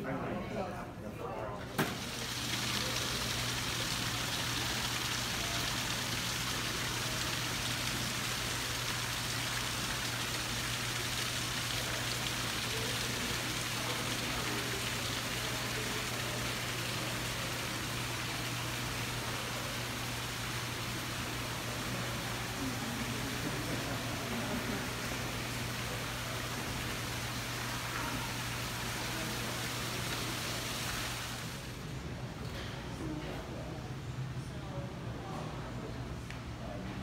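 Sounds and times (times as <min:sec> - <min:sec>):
steady hiss: 0:01.8 - 0:31.9.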